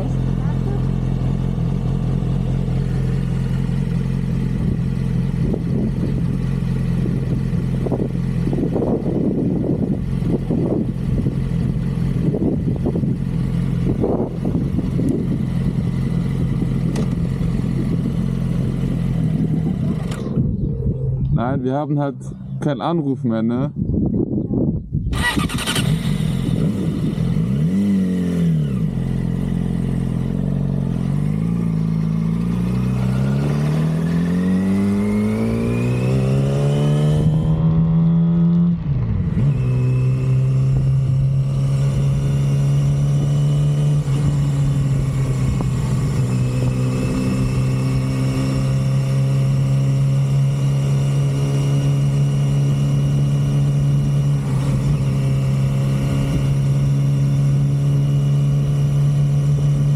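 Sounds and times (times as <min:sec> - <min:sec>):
motorcycle engine revving: 0:00.0 - 0:22.6, 0:25.1 - 0:59.9.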